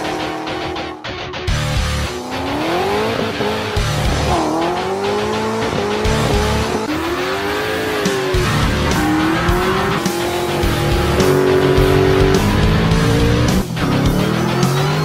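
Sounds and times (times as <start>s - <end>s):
car engines revving: 0.0s - 15.0s
music with heavy bass beat: 0.0s - 15.0s.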